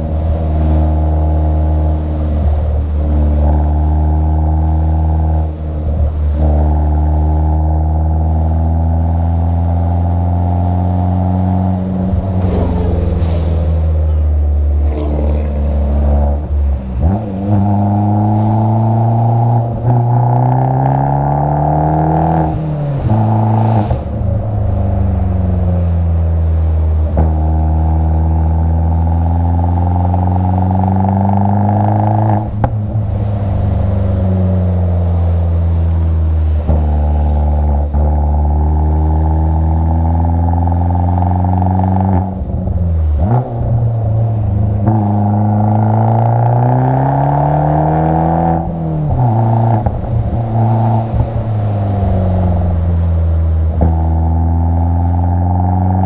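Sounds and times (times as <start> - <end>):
car engine pulling hard: 0.0 - 56.0.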